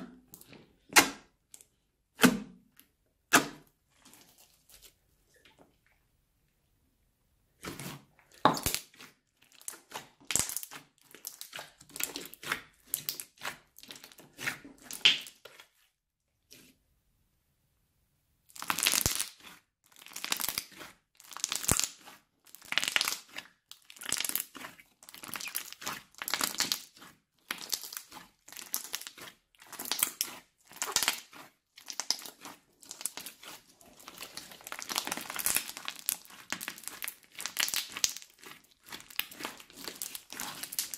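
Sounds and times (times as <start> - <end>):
crunchy slime squishing: 3.3 - 5.0, 7.6 - 16.7, 18.5 - 40.9.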